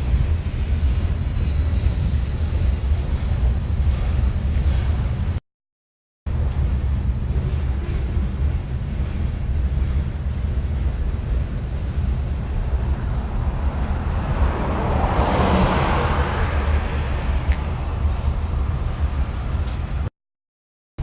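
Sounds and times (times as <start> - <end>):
freight train rumbling on track: 0.0 - 5.4, 6.3 - 20.1.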